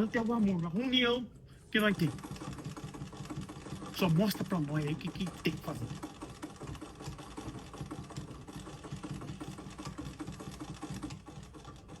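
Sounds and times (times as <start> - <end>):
sewing machine stitching: 0.0 - 1.2, 1.8 - 12.0.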